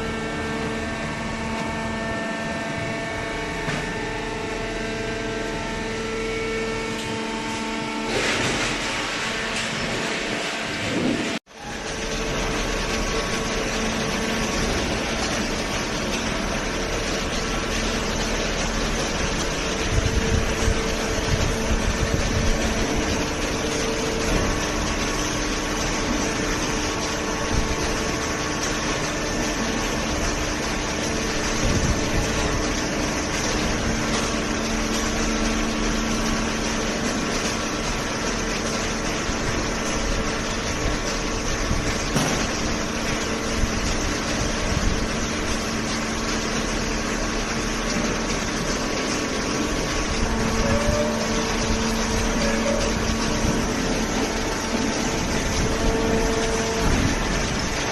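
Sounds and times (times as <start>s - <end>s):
baler motor humming: 0.0s - 57.9s.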